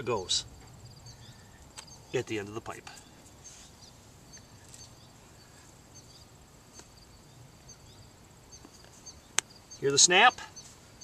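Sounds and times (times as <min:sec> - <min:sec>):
insects trilling: 0:00.0 - 0:11.0
small birds chirping: 0:00.0 - 0:11.0.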